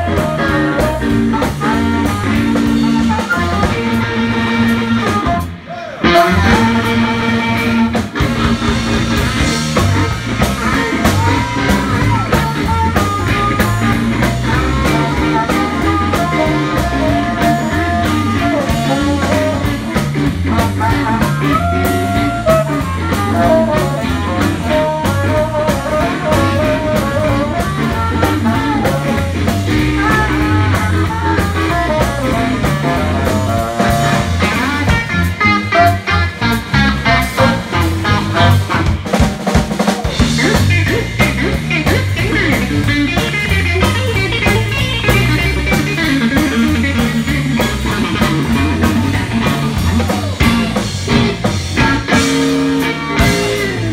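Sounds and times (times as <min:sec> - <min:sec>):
drum kit: 0:00.0 - 0:53.9
electric guitar: 0:00.0 - 0:53.9
saxophone: 0:00.0 - 0:53.9
walking bass guitar: 0:00.0 - 0:53.9.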